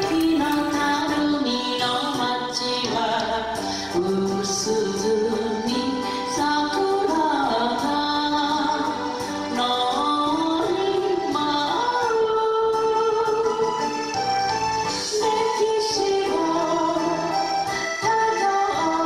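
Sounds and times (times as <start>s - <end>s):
woman singing into a microphone: 0.0s - 14.1s, 14.9s - 19.0s
instrumental backing: 0.0s - 19.0s.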